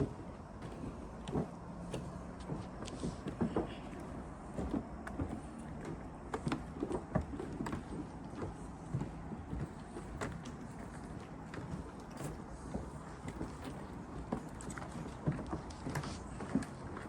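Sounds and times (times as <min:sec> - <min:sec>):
footsteps knocking and scuffing: 0:00.0 - 0:17.0.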